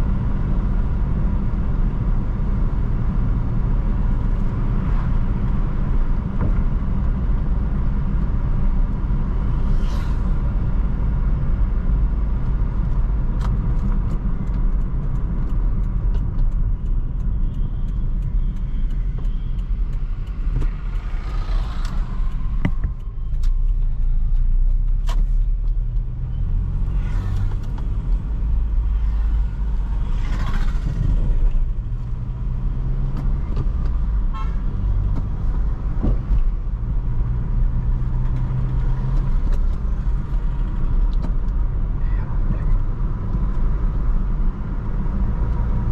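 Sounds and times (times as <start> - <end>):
car engine: 0.0 - 45.9
road rumble: 0.0 - 45.9.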